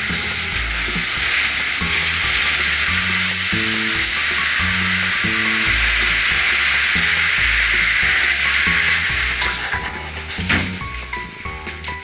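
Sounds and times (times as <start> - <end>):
background music with bass: 0.0 - 12.0
crushed stone pouring from dump truck: 0.0 - 12.0.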